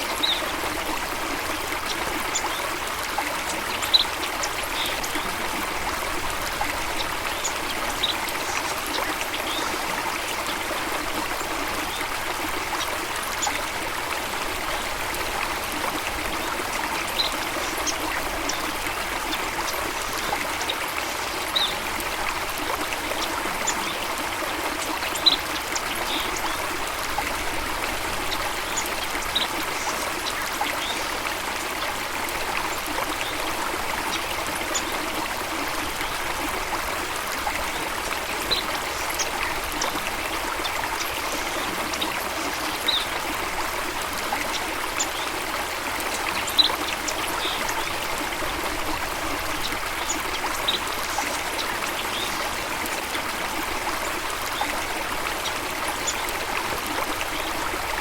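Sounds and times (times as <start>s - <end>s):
water rushing and trickling: 0.0s - 58.0s.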